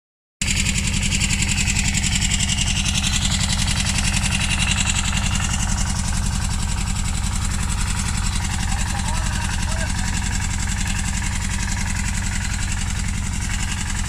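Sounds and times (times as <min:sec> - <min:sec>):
tractor diesel engine running: 0:00.4 - 0:14.0.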